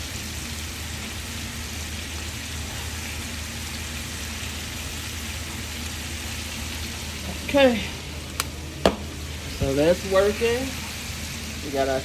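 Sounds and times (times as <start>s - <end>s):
food sizzling in hot oil: 0.0s - 12.0s
low steady hum: 0.0s - 12.0s.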